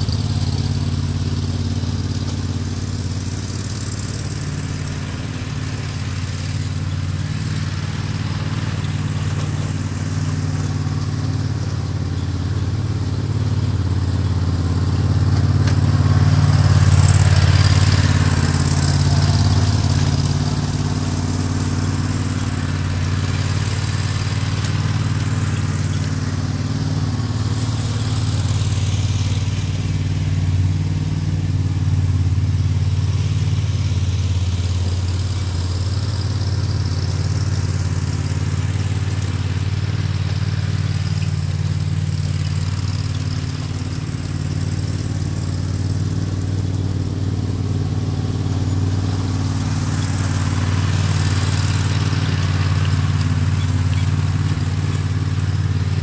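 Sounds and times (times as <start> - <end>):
riding mower engine drone: 0.0 - 56.0.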